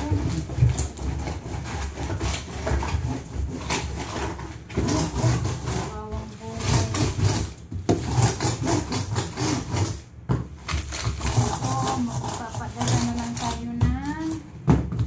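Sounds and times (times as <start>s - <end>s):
tape rubbing on cardboard: 0.0s - 10.1s, 10.7s - 13.8s.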